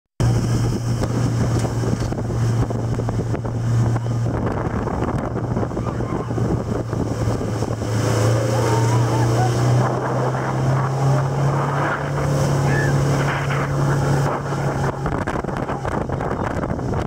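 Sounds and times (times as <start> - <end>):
motorboat engine drone: 0.2 - 17.0
rushing water and spray: 0.2 - 17.0
wind buffeting microphone: 0.2 - 17.0.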